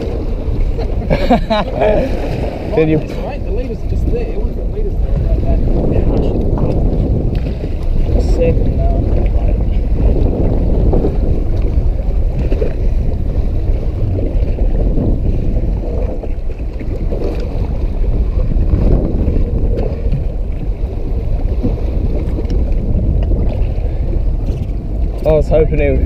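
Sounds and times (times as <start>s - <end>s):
sea water washing on hull: 0.0s - 26.0s
wind buffeting microphone: 0.0s - 26.0s.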